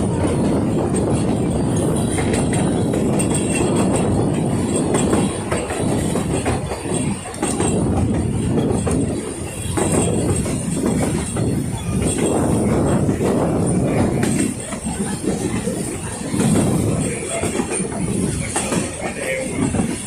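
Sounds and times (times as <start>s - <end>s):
clicks from moving train: 0.0s - 20.0s
steam train running: 0.0s - 20.0s.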